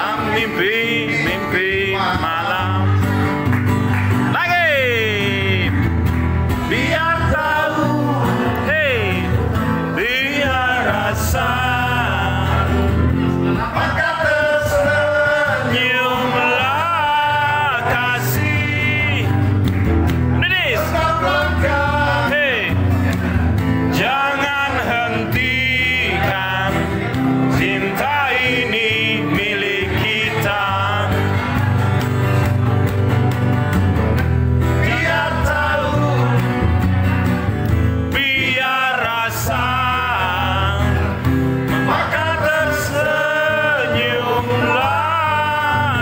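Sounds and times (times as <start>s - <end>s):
man singing into microphone: 0.0s - 3.2s, 4.3s - 5.8s, 6.6s - 19.4s, 20.4s - 22.8s, 23.9s - 31.7s, 34.8s - 36.6s, 37.9s - 46.0s
strummed acoustic guitar: 0.0s - 46.0s.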